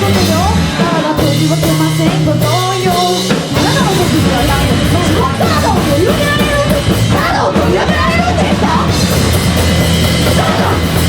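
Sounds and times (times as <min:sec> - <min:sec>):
distorted guitar: 0:00.0 - 0:11.0
drum kit: 0:00.0 - 0:11.0
live punk rock band: 0:00.0 - 0:11.0.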